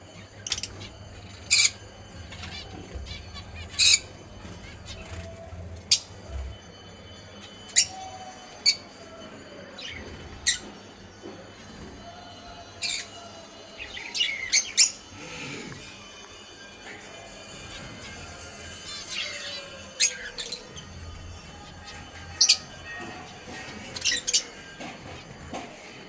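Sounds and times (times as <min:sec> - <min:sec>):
parrots calling: 0:00.3 - 0:09.1, 0:12.8 - 0:25.7.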